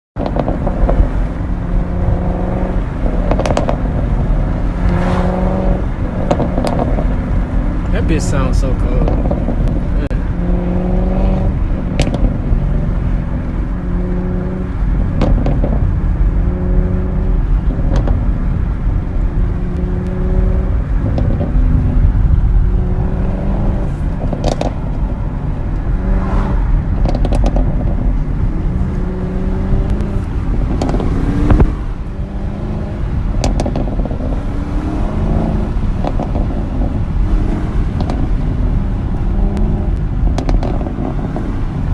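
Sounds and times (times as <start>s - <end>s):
car engine revving: 0.2s - 41.9s
exhaust crackles and pops: 0.2s - 41.9s.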